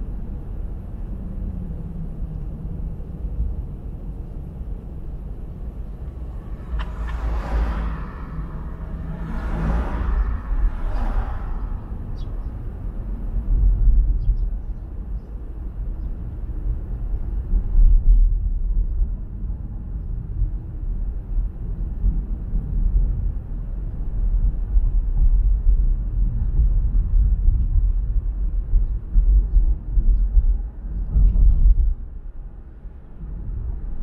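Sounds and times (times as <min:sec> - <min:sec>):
car road and wind noise: 0:00.0 - 0:34.0.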